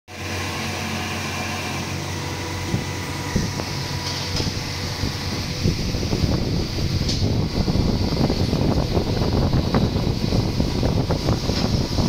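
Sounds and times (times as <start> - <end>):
injection moulding machine humming: 0.1 - 12.0.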